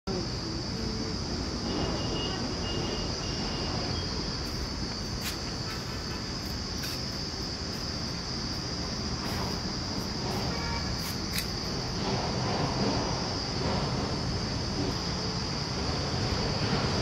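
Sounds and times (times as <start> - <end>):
insects droning: 0.1 - 17.0.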